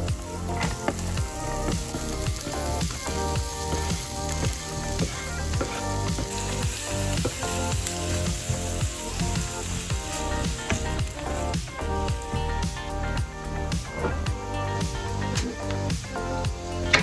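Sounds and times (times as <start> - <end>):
onion sizzling in oil: 0.0 - 13.6
background music: 0.0 - 17.0.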